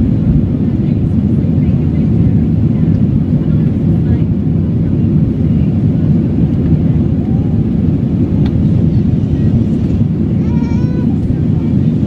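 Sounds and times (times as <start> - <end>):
jet engine cabin roar: 0.0 - 12.0.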